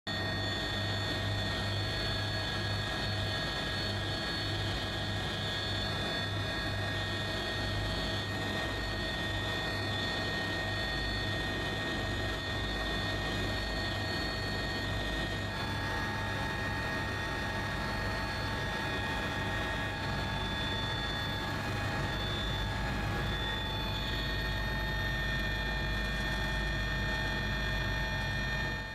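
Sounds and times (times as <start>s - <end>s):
aircraft engine drone: 0.1s - 28.9s.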